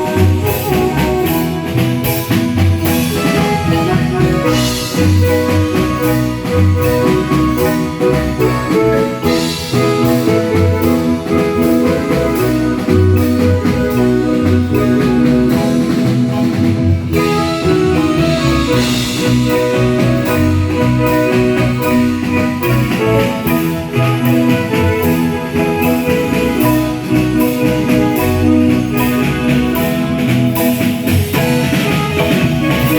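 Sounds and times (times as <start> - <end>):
bass line: 0.0 - 32.9
drum and cymbal strokes: 0.0 - 32.9
marimba band playing: 0.0 - 32.9.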